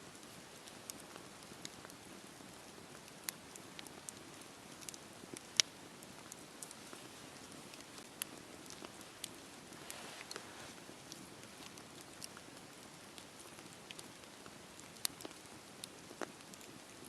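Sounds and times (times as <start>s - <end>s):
campfire hissing and crackling: 0.0s - 17.0s.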